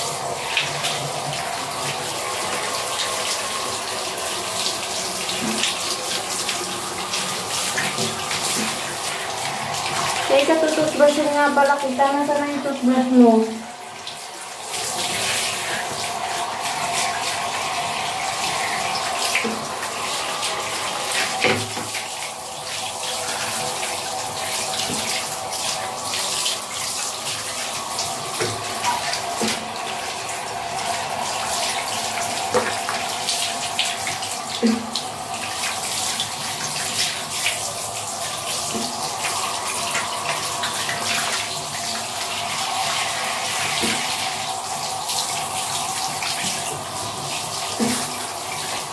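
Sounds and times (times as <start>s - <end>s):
shower water spraying: 0.0s - 48.9s.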